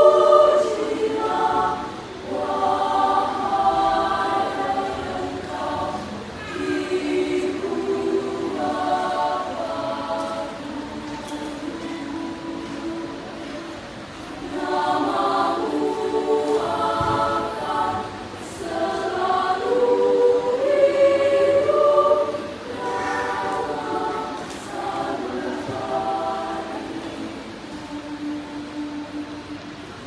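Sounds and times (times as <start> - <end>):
choir singing: 0.0 - 30.0.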